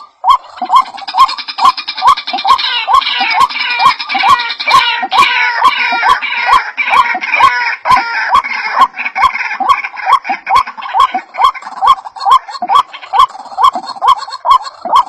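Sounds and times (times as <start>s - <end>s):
overlapping higher bird calls: 0.0s - 15.0s
waterhen rising calls: 0.0s - 15.0s.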